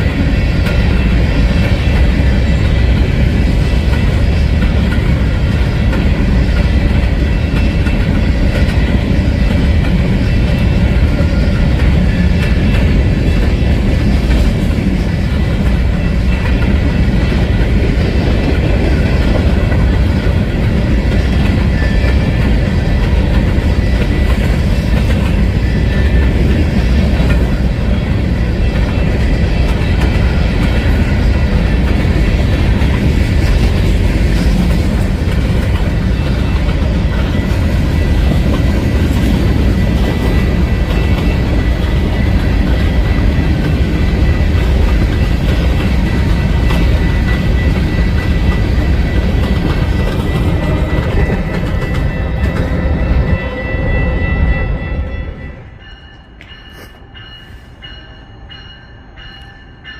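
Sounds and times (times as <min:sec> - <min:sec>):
clickety-clack over rail joints: 0:00.0 - 0:53.6
train wheels rumbling on rails: 0:00.0 - 0:59.9.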